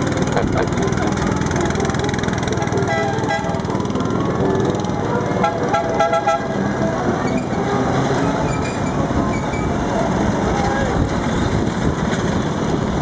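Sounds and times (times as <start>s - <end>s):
small gasoline engines running: 0.0s - 13.0s.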